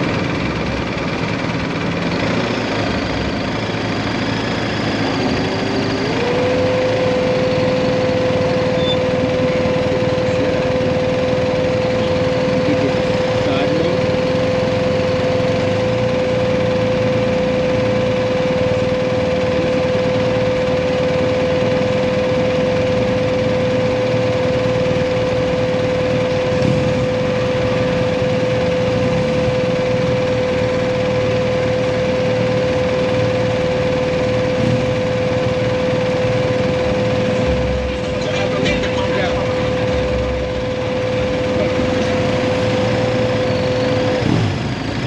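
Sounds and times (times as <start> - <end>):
motorcycle engine running: 0.0 - 45.0
road noise: 0.0 - 45.0
steady whine: 0.0 - 45.0.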